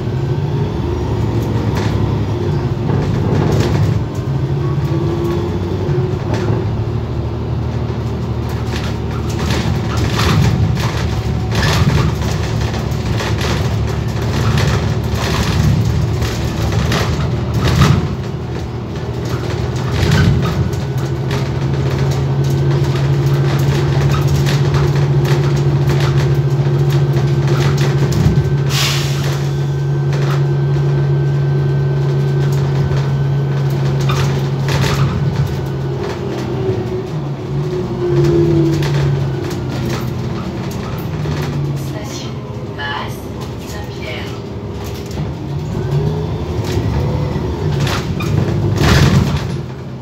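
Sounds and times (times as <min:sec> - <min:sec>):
bus engine and road noise: 0:00.0 - 0:50.0
interior clicks and rattles: 0:00.8 - 0:50.0.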